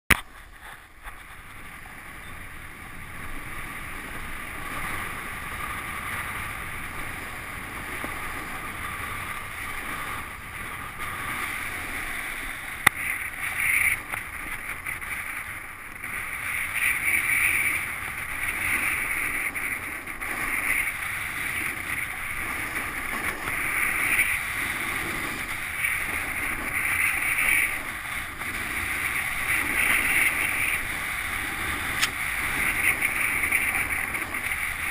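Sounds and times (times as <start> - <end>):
wind rushing over microphone: 0.1 - 34.9
skis hissing over snow: 3.1 - 34.9.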